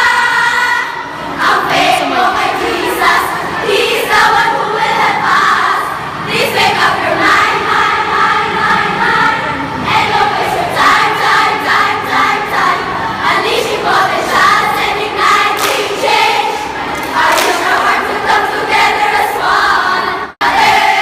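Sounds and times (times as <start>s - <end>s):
girls singing in unison: 0.0s - 21.0s.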